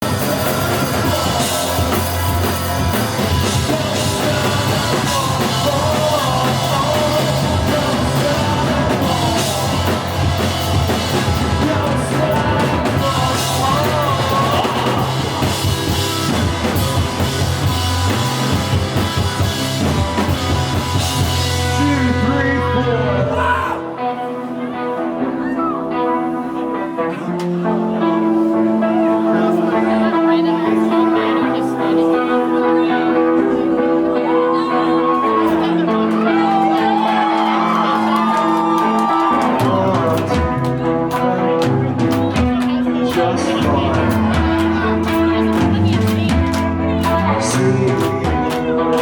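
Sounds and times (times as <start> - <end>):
person singing: 0.0 - 49.0
rock band playing: 0.0 - 49.0.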